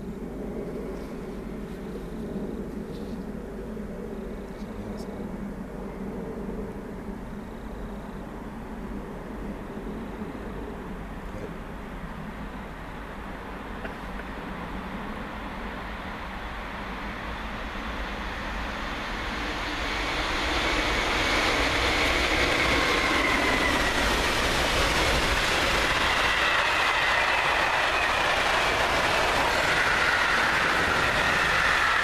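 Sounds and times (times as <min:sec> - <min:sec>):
faint high whine: 0:00.0 - 0:32.0
freight train passing at speed: 0:00.0 - 0:32.0.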